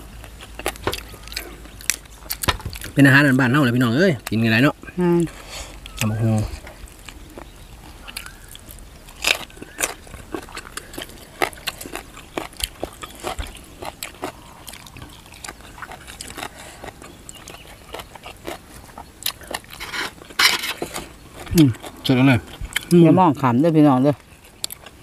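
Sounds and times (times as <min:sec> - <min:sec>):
chewing crunchy food: 0:00.0 - 0:04.6, 0:05.7 - 0:25.0.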